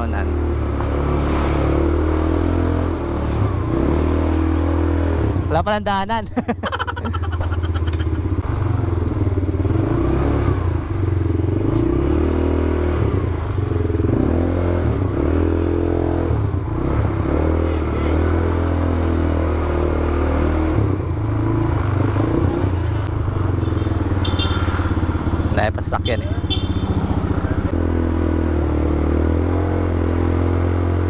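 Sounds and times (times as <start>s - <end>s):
atv engine revving: 0.0s - 5.5s, 6.6s - 31.0s.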